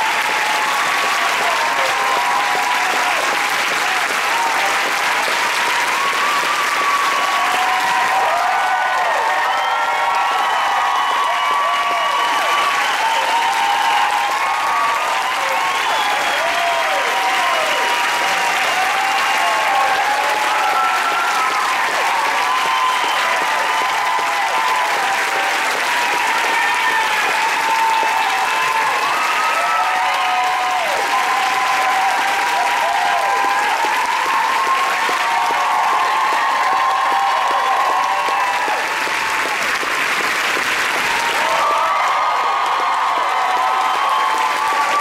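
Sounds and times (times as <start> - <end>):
audience applauding: 0.0 - 45.0
crowd cheering: 0.0 - 45.0.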